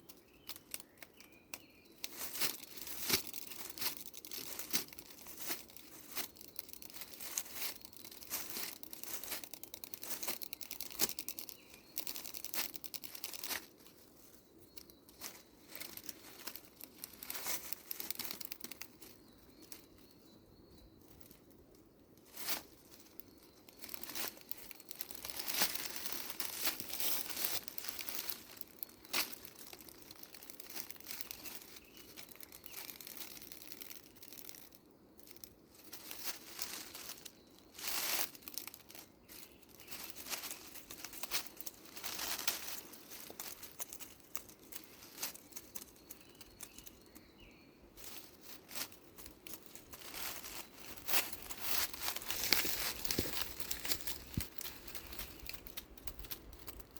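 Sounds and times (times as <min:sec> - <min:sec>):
rustling and crackling: 0:00.0 - 0:56.9.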